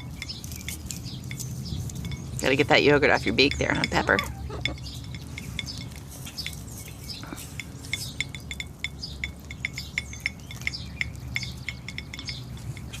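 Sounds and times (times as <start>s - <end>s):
beaks tapping a container: 0.0s - 13.0s.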